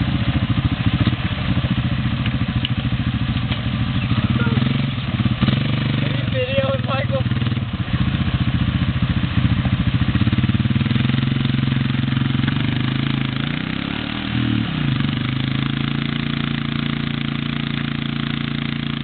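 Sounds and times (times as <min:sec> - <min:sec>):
atv engines idling: 0:00.0 - 0:19.0.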